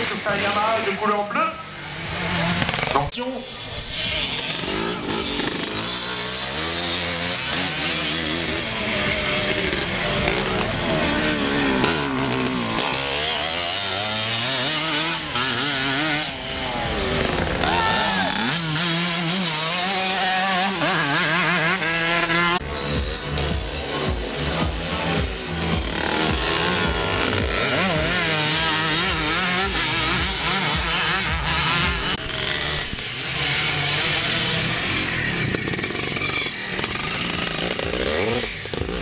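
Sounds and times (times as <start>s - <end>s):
motorcycle engines revving: 0.0s - 39.0s.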